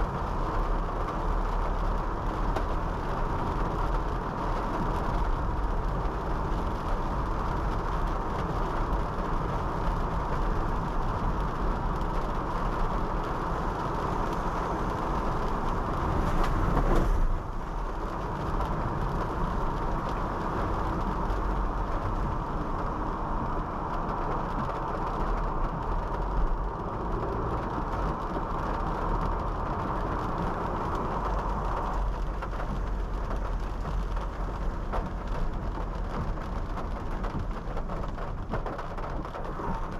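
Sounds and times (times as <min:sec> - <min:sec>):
rain: 0:00.0 - 0:39.9
tyre noise on wet road: 0:00.0 - 0:39.9.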